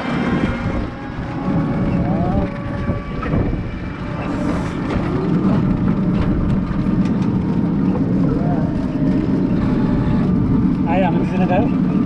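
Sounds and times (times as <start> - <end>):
road and wind noise: 0.0 - 12.0
tuk-tuk engine rumble: 0.0 - 12.0.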